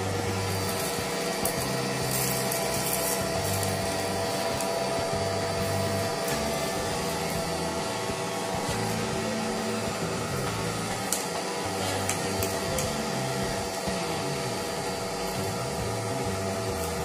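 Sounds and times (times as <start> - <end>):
vacuum cleaner motor whining: 0.0 - 17.0.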